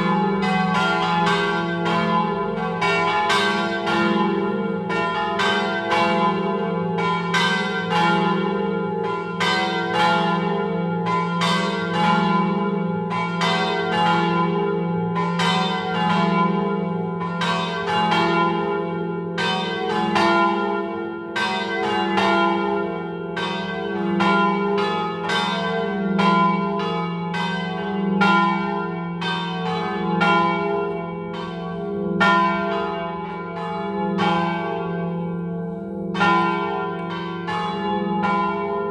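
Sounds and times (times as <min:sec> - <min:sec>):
swinging church bells ringing: 0:00.0 - 0:38.9.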